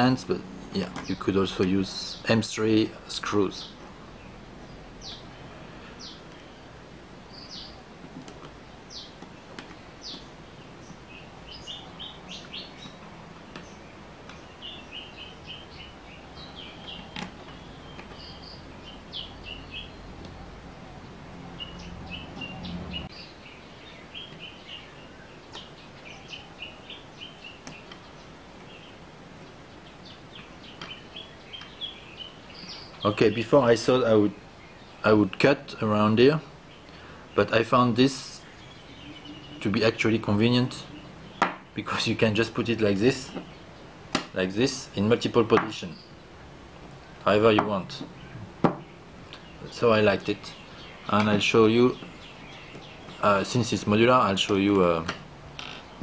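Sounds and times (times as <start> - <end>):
low steady hum: 0.0 - 56.0
small birds chirping: 0.0 - 56.0.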